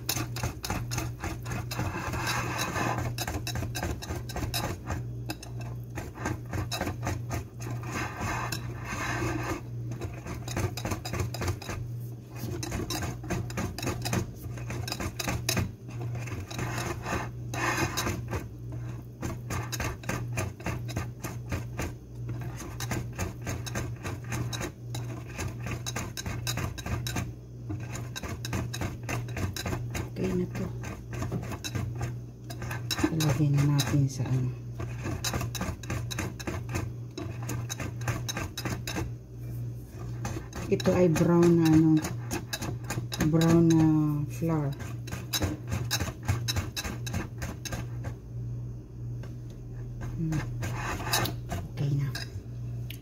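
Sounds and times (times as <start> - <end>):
whisk clicking against glass bowl: 0.0 - 11.8, 12.4 - 39.1, 40.0 - 48.1
steady low hum: 0.0 - 53.0.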